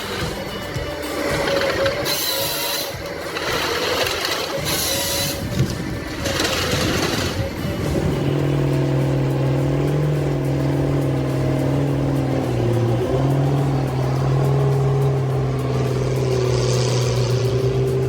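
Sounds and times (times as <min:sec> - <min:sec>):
engine running steadily: 0:00.0 - 0:18.0
rushing machine noise: 0:00.0 - 0:18.0.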